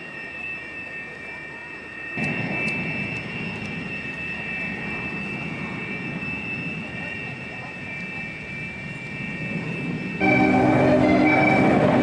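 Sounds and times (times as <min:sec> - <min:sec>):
jet engine rushing roar: 0:00.0 - 0:12.0
jet engine whine: 0:00.0 - 0:12.0.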